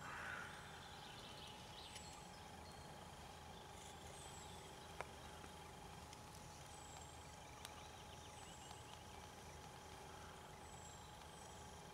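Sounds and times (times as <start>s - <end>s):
faint hiss and hum: 0.0s - 11.9s.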